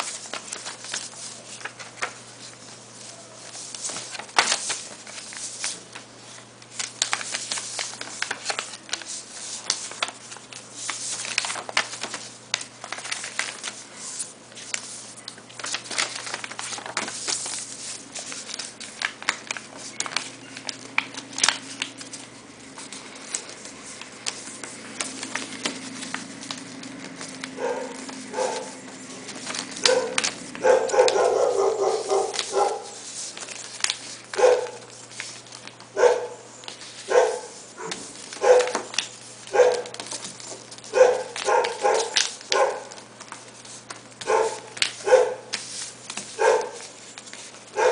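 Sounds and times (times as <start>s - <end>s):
paper rustling and crackling: 0.0s - 47.9s.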